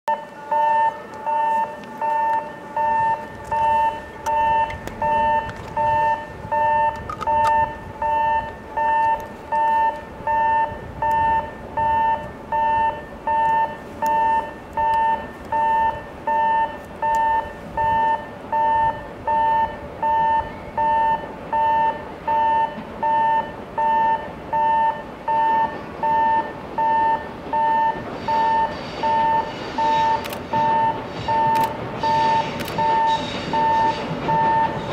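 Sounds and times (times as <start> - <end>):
level crossing alarm beeping: 0.1 - 34.9
train rushing: 0.3 - 34.9.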